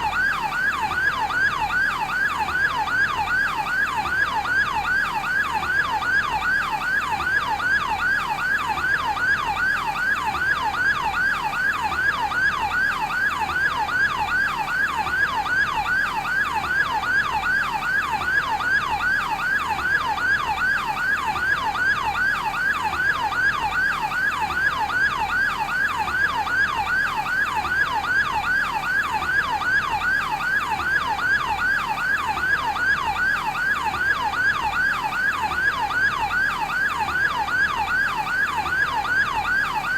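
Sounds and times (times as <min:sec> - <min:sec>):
electronic yelp siren: 0:00.0 - 0:39.9.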